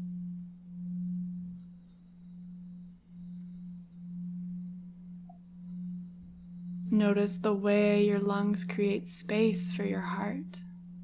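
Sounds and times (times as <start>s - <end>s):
steady low drone tone: 0.0s - 11.0s.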